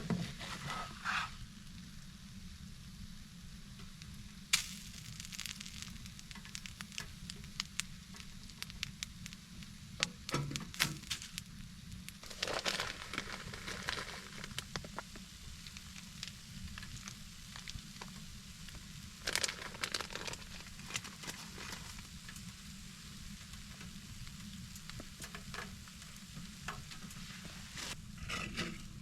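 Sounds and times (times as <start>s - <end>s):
food sizzling in a skillet: 0.1s - 29.0s.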